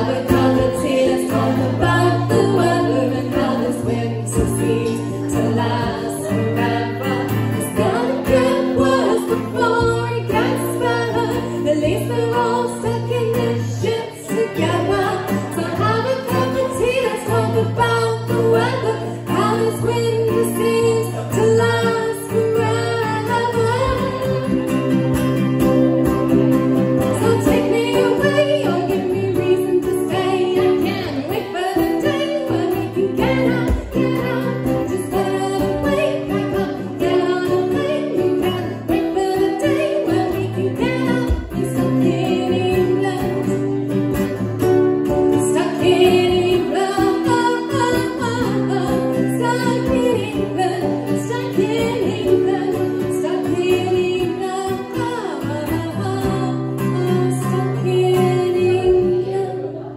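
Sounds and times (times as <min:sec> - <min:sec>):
strummed acoustic guitar: 0:00.0 - 0:59.9
ukulele: 0:00.0 - 0:59.9
woman singing: 0:00.0 - 0:59.9.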